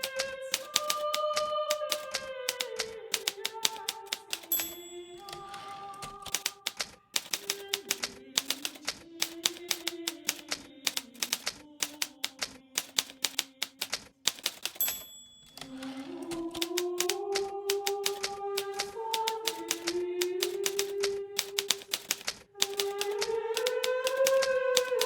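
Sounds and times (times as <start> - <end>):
typewriter bell ring: 0.0 - 25.0
typewriter key strikes: 0.0 - 25.0.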